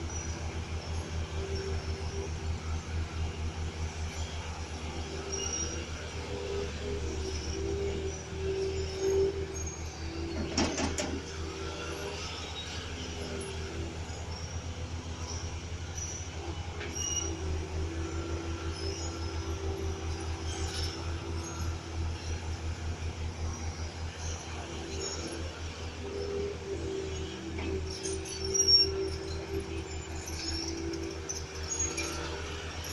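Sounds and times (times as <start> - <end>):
diesel earthmover engine running: 0.0 - 32.9
engine whine: 0.0 - 32.9.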